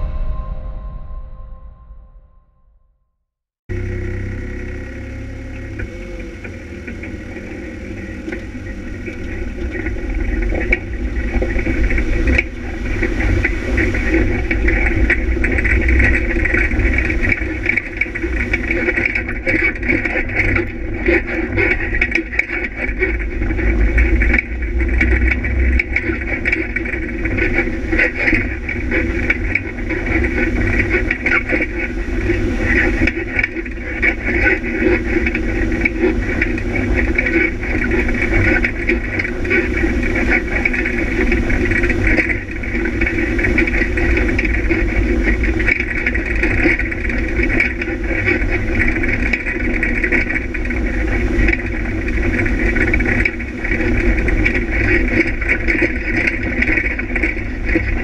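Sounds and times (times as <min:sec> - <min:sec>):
off-road vehicle engine rumbling: 0:03.7 - 0:58.0.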